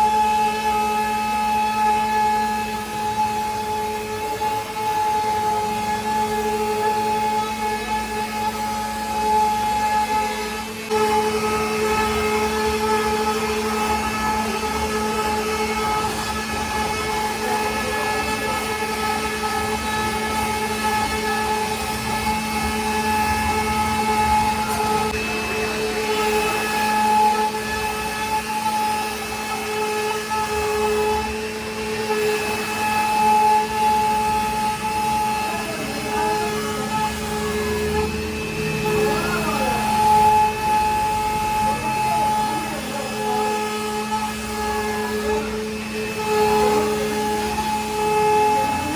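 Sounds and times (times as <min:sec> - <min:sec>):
bit cutting wood: 0:00.0 - 0:48.9
router spindle whining: 0:00.0 - 0:48.9.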